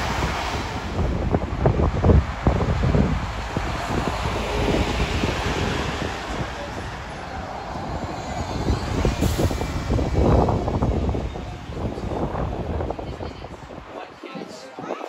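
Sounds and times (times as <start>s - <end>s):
engine and tyre rumble: 0.0s - 13.9s
buses passing close by: 0.0s - 14.0s
wind buffeting microphone: 0.0s - 14.5s.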